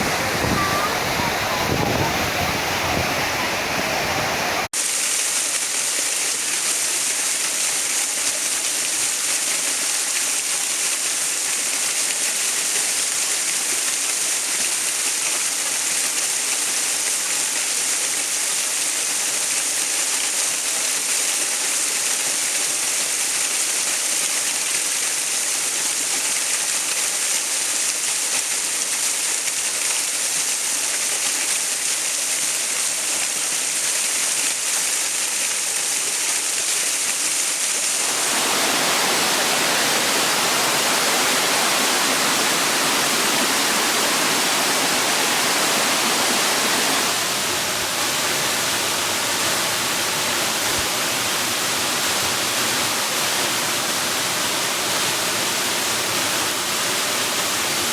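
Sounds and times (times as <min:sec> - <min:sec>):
rushing water hiss: 0:00.0 - 0:57.9.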